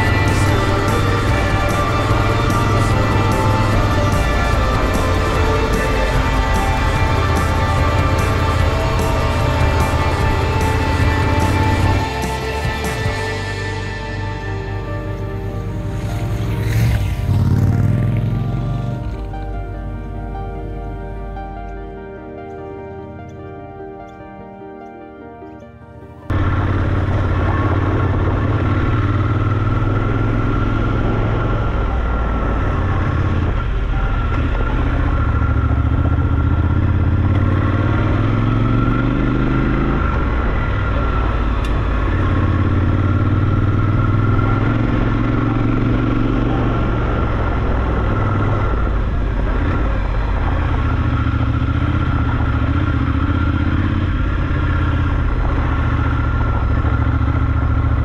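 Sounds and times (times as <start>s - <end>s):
motorcycle engine accelerating: 0.0s - 21.5s, 26.3s - 58.0s.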